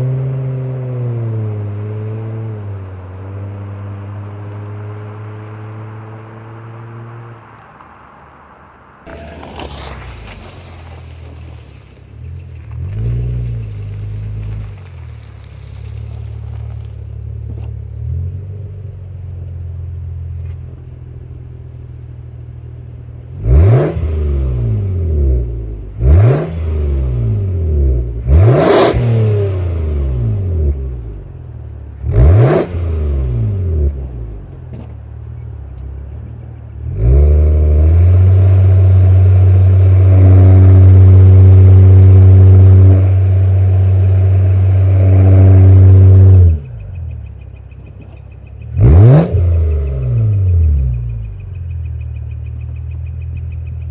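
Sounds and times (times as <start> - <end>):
car exhaust idling and revving: 0.0 - 53.9.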